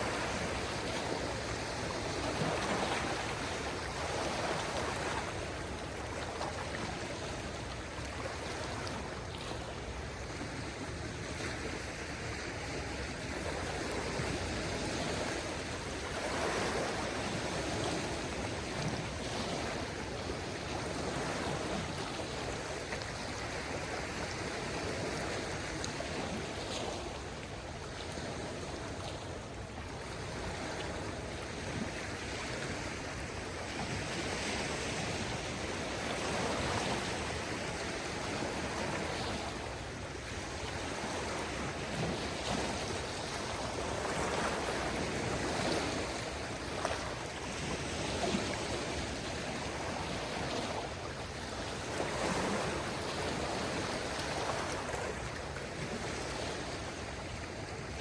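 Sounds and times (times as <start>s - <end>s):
light breeze: 0.0s - 58.0s
small waves washing onto shore: 0.0s - 58.0s.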